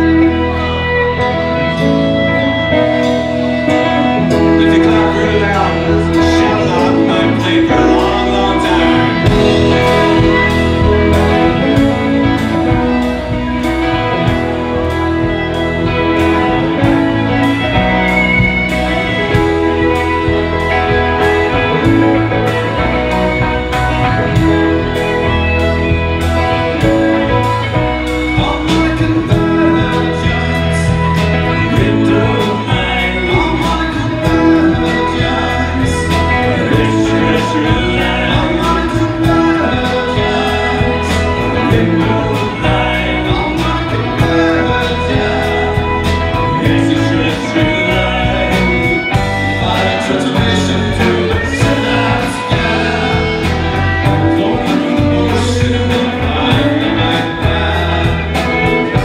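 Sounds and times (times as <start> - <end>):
live band playing: 0.0 - 59.0.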